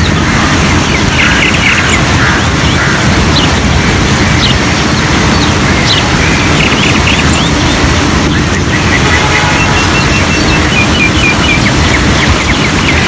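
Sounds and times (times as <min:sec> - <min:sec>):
birds chirping: 0:00.0 - 0:13.0
steady rushing noise: 0:00.0 - 0:13.0.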